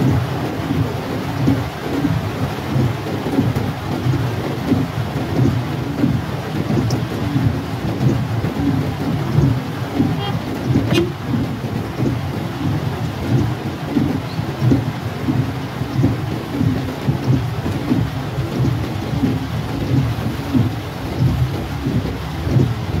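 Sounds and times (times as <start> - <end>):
heavy rain on car roof: 0.0 - 23.0.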